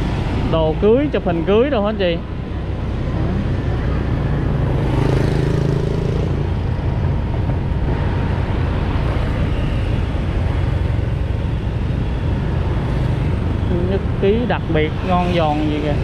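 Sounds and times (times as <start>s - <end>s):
scooter engine hum: 0.0s - 16.0s
traffic: 0.0s - 16.0s
wind: 0.0s - 16.0s.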